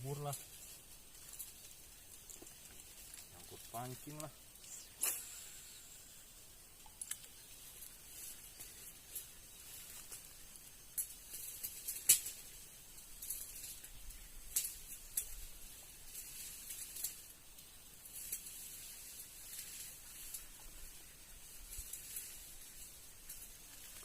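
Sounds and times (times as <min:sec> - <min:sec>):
faint high hiss: 0:00.0 - 0:24.0.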